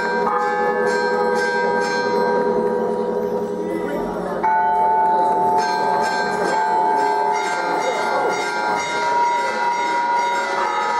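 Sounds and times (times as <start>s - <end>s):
church bells ringing: 0.0s - 10.9s
murmur of crowd: 0.0s - 10.9s.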